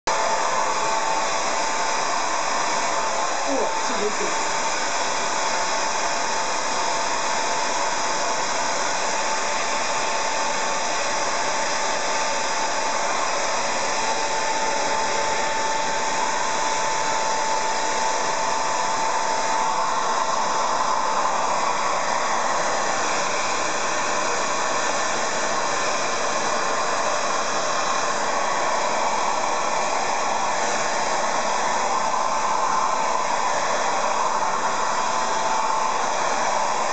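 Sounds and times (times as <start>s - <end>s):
hair dryer running: 0.0s - 36.9s.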